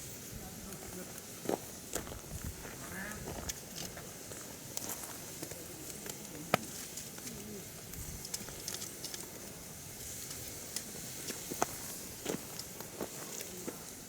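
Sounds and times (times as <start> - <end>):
fire hissing: 0.0 - 14.0
firewood crackling and popping: 0.0 - 14.0.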